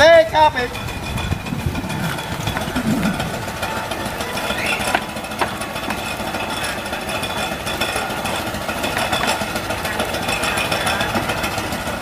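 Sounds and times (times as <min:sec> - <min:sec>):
small engine knocking: 0:00.0 - 0:12.0.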